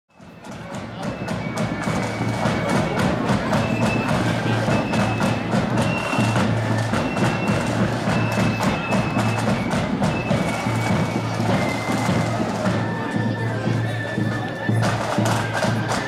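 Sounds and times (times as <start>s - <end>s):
flutes playing held high notes: 0.1s - 16.0s
snare drums rattling: 0.1s - 16.0s.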